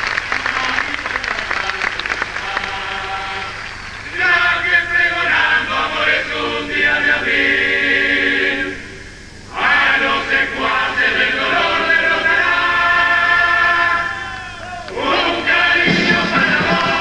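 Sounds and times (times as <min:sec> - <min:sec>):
chorus singing together: 0:01.6 - 0:17.0.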